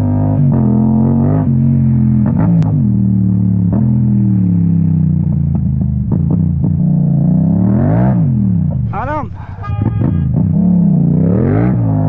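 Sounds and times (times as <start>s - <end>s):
motorcycle engine revving: 0.0s - 8.9s, 9.9s - 12.0s.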